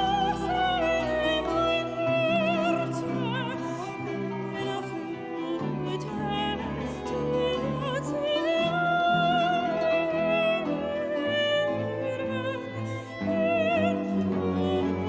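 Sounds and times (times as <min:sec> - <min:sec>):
operatic music: 0:00.0 - 0:15.0.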